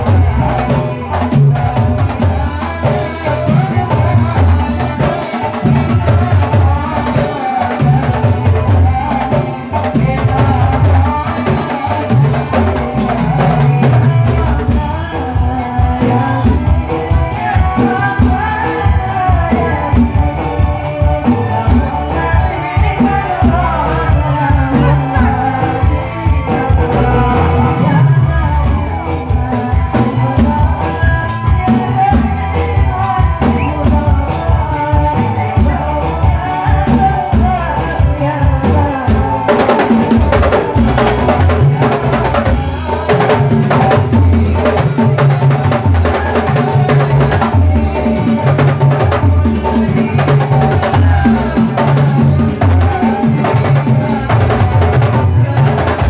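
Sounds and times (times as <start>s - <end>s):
frame drums beating: 0.0s - 56.0s
person singing: 0.0s - 56.0s.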